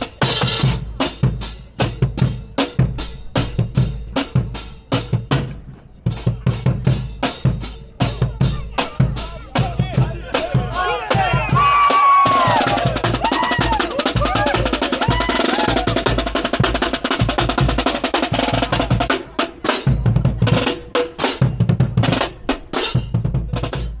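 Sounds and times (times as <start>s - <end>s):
marching snare drum: 0.0s - 24.0s.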